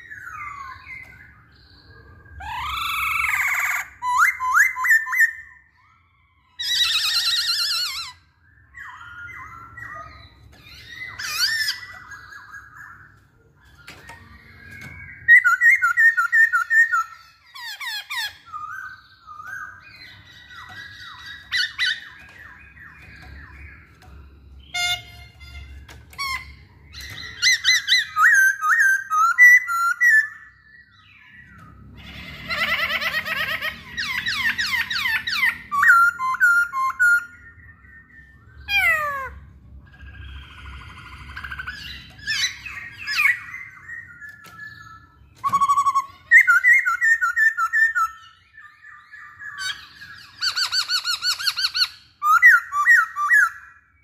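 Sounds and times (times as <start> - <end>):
bird singing whistled phrases: 2.3 - 23.8, 24.6 - 31.4, 33.7 - 54.0.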